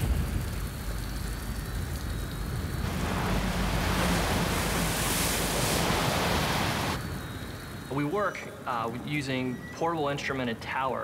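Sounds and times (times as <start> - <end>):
driving rain: 0.0 - 9.2
hurricane wind: 0.0 - 10.4.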